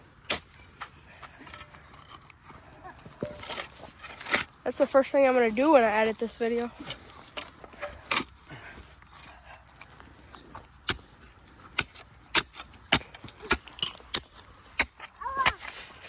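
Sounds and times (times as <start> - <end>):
shovels digging into dirt: 0.0 - 16.0.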